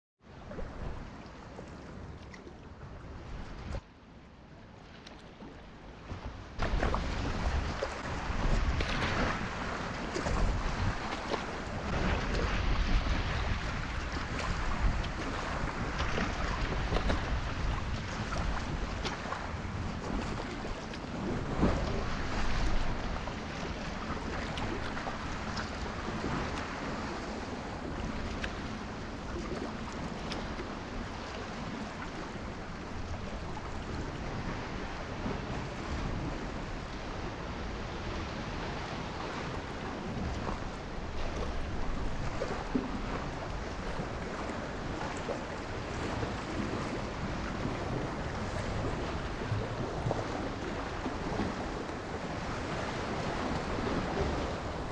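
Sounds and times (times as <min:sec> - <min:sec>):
water sloshing around kayak: 0:00.2 - 0:54.9
wind noise on microphone: 0:00.3 - 0:03.9, 0:05.2 - 0:54.9.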